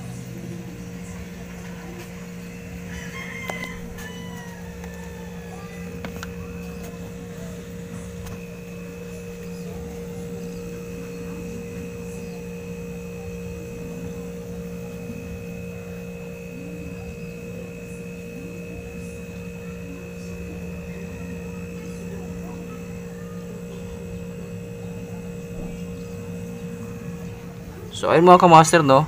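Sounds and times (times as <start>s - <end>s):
faint high whine: 0.0s - 29.0s
refrigerator compressor humming: 0.0s - 29.0s.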